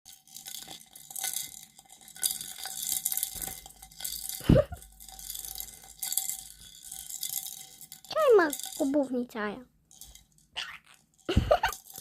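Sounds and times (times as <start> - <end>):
toy rattling and clinking: 0.1 - 12.0.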